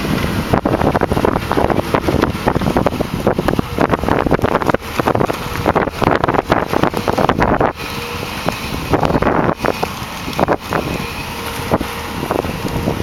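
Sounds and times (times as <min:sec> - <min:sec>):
excavator diesel engine and hydraulics: 0:00.0 - 0:13.0
wind buffeting microphone: 0:00.0 - 0:13.0.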